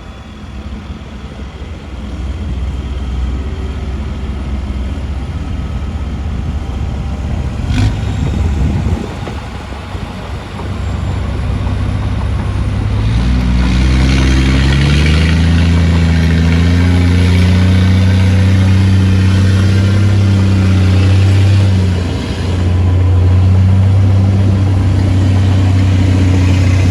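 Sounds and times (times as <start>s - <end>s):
heavy diesel engine running: 0.0s - 26.9s.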